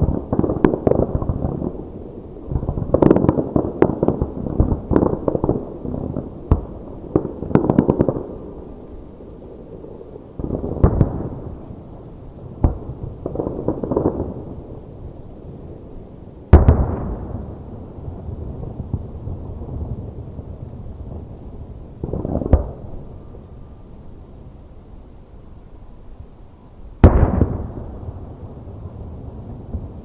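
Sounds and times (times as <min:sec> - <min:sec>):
fireworks bangs: 0:00.0 - 0:14.9, 0:16.5 - 0:24.0, 0:27.0 - 0:30.0
fireworks crackling: 0:00.0 - 0:30.0.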